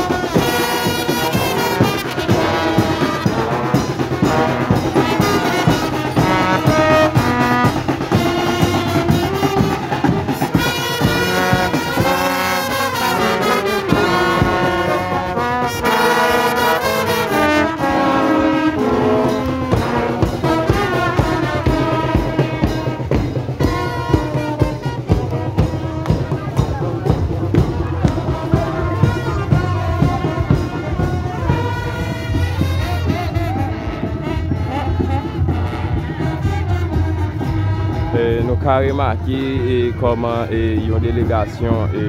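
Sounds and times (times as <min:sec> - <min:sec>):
marching brass band playing: 0:00.0 - 0:42.0.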